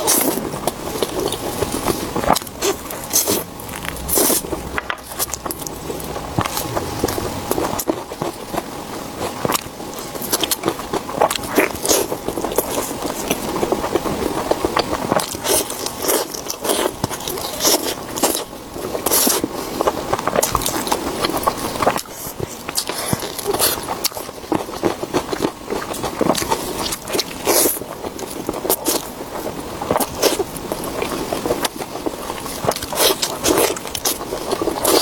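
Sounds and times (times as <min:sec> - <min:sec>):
chewing and biting meat: 0:00.0 - 0:35.0.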